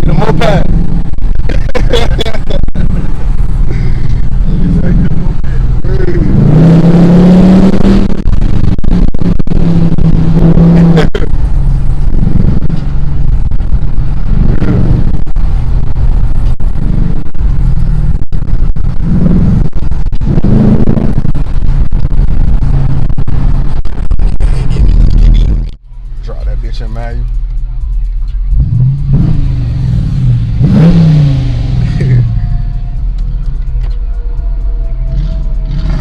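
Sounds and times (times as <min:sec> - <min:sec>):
deep car engine drone: 0:00.0 - 0:36.0.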